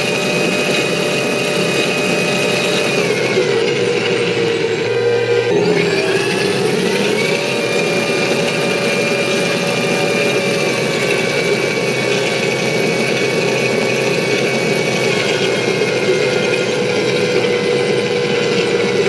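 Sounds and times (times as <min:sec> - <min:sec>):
simulated turbine engine whine: 0:00.0 - 0:19.0.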